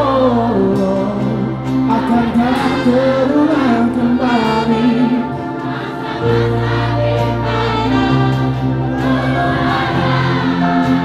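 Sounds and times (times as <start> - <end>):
crowd singing along: 0.0 - 11.0
live band music: 0.0 - 11.0.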